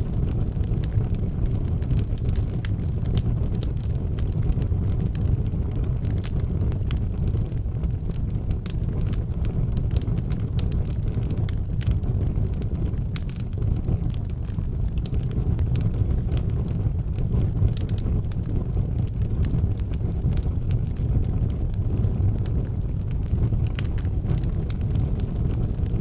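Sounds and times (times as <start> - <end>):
low rumble: 0.0 - 26.0
wood fire crackling and popping: 0.0 - 26.0.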